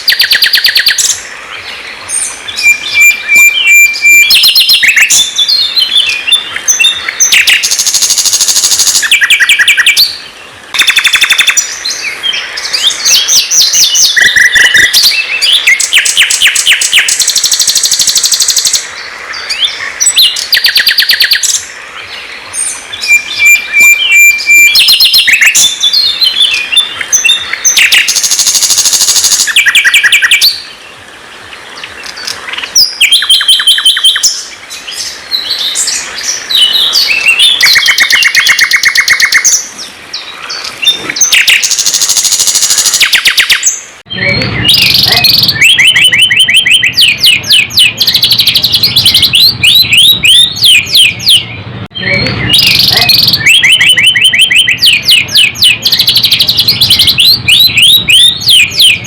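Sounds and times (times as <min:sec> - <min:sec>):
songbird song with whistles and trills: 0:00.0 - 0:59.0.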